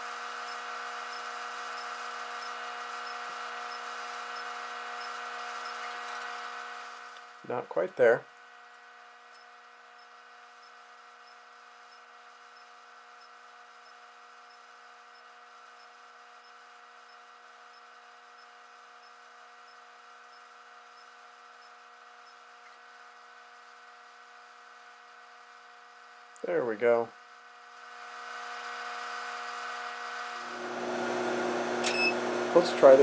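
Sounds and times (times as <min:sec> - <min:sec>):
induction heater electrical hum: 0:00.0 - 0:33.0.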